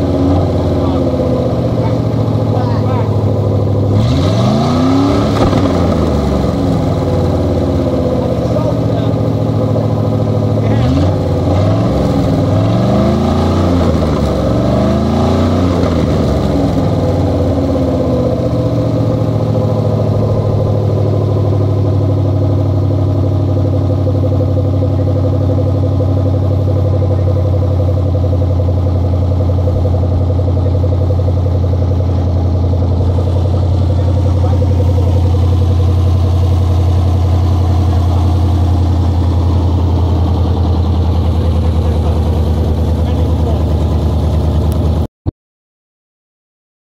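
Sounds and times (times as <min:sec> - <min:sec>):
engine revving and idling: 0:00.0 - 0:45.1.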